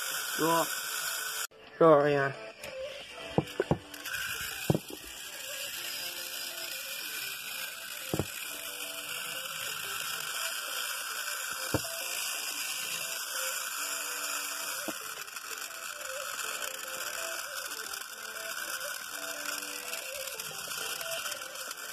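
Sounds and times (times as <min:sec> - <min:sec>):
toy train motor whirring: 0:00.0 - 0:01.5, 0:02.6 - 0:21.9.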